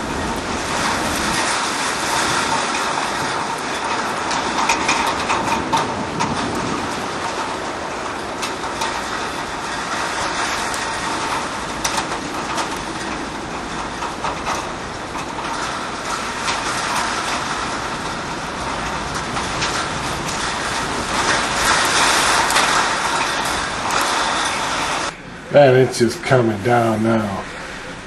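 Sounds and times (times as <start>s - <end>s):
wind and rain rushing: 0.0s - 28.0s
clicks and rattles: 1.4s - 25.1s.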